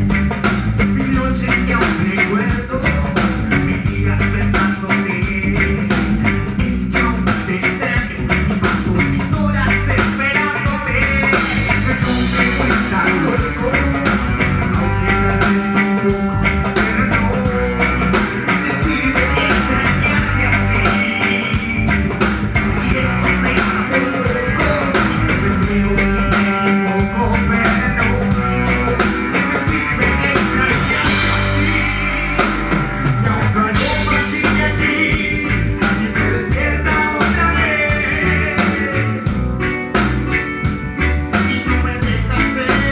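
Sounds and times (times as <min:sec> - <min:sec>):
drum kit beat: 0:00.0 - 0:42.9
guitar: 0:00.0 - 0:42.9
person singing: 0:00.8 - 0:39.4, 0:41.2 - 0:42.9.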